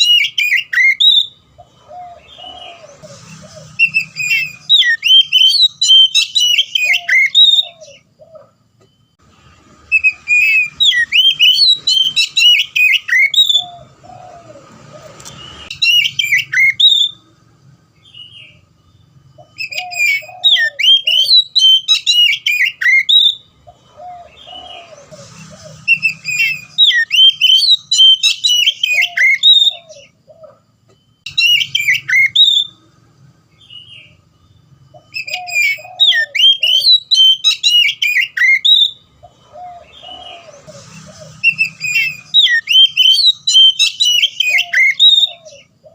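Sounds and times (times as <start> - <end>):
magpie-robin singing: 0.0 - 8.1, 9.9 - 17.3, 19.3 - 30.5, 31.2 - 32.8, 34.9 - 45.9.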